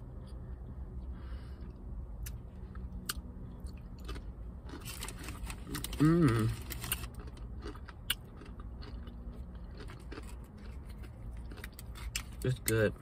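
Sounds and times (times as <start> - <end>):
steady low rumble: 0.0 - 13.0
chewing food with crunches: 1.6 - 13.0.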